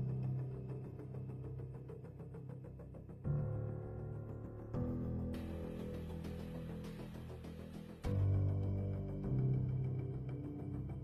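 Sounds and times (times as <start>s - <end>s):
dark dramatic music low notes: 0.0s - 11.0s.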